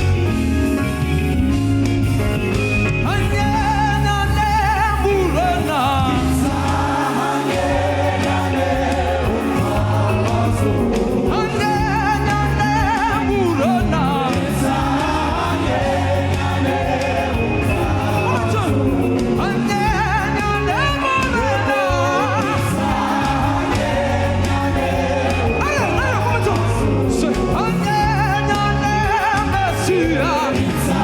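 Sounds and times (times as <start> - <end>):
choir singing gospel music: 0.0 - 31.0.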